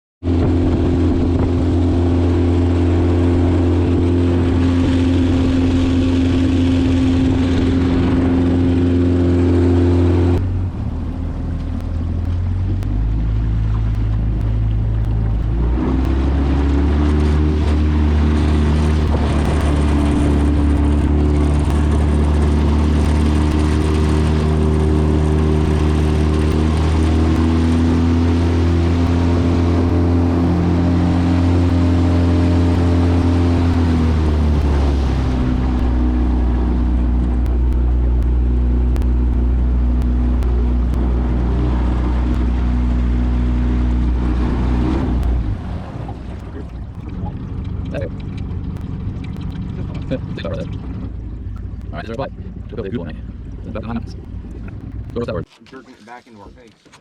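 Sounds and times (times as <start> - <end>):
motorboat engine running: 0.2 - 57.0.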